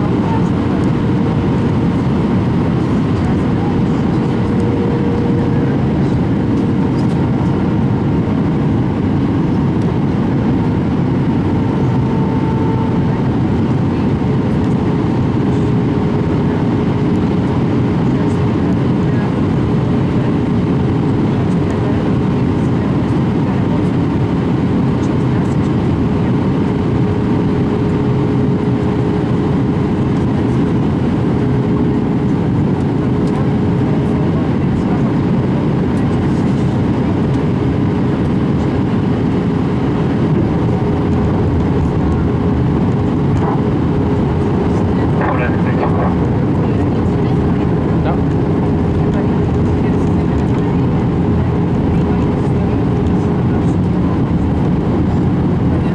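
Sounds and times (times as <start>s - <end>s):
constant tone: 0.0s - 55.9s
faint hum: 0.0s - 55.9s
jet engine and airflow rumble: 0.0s - 55.9s.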